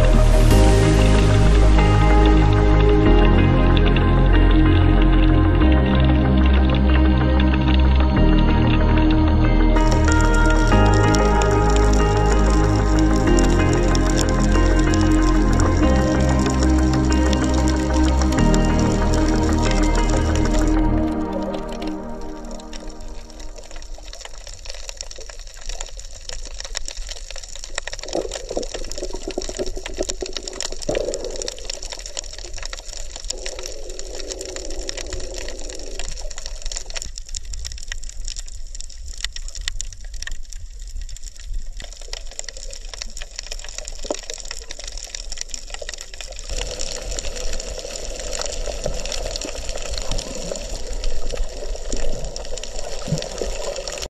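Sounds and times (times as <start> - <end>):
water splashes: 9.8 - 54.0.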